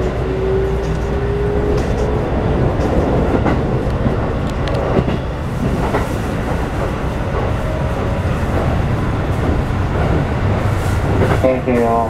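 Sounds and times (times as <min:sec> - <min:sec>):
train inverter whine: 0:00.0 - 0:12.0
wheels rumbling on rails: 0:00.0 - 0:12.0.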